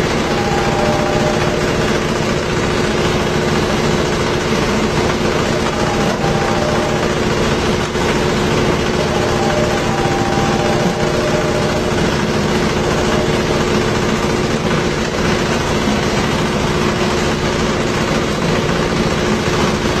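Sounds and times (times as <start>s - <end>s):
peeling machine droning: 0.0s - 20.0s.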